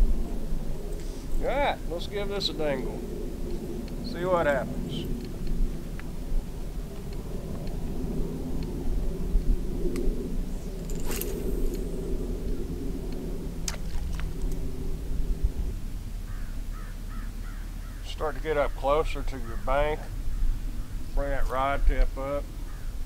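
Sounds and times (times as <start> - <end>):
low engine rumble: 0.0 - 21.2.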